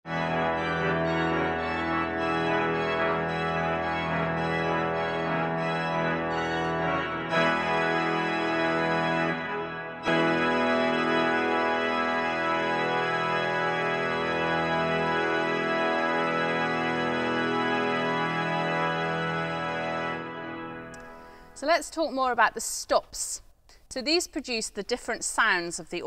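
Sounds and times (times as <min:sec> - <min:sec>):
pipe organ playing chords: 0:00.1 - 0:21.6.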